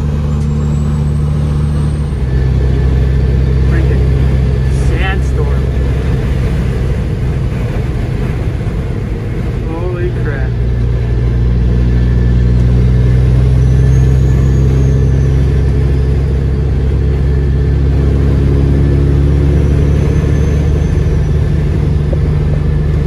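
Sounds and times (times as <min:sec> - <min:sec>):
diesel truck engine droning: 0:00.0 - 0:23.0
road and wind noise: 0:00.0 - 0:23.0.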